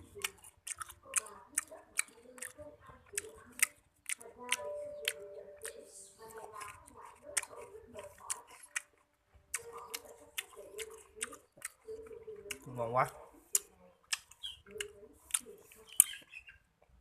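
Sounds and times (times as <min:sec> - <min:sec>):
person chewing with wet mouth clicks: 0:00.0 - 0:16.2.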